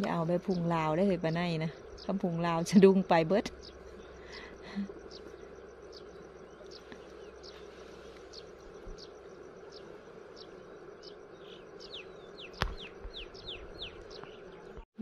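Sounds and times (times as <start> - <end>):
steady low hiss: 0.0 - 14.8.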